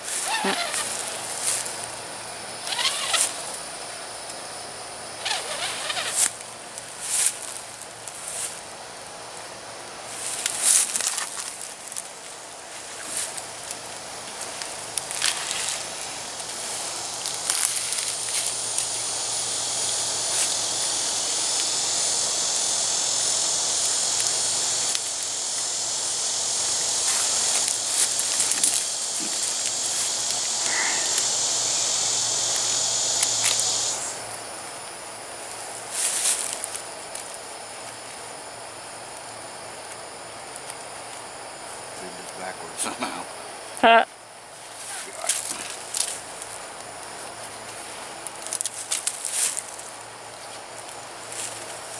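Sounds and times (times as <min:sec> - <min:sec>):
insects buzzing: 0:00.0 - 0:51.9.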